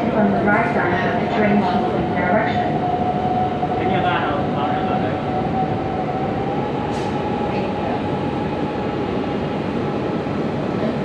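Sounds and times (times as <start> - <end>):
metro train rumble: 0.0 - 11.0.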